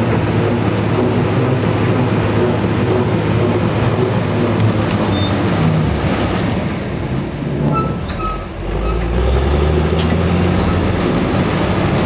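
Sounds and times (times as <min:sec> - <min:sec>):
heavy engine under load: 0:00.0 - 0:12.0.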